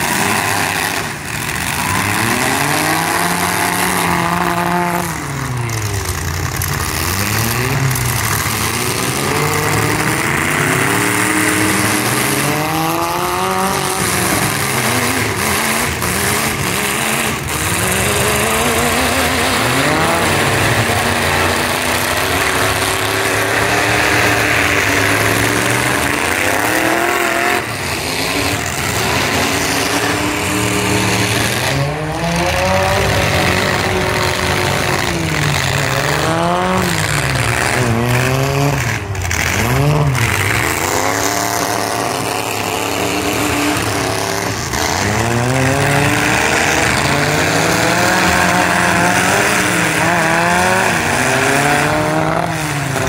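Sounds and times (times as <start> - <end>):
car engines revving hard: 0.0 - 53.0.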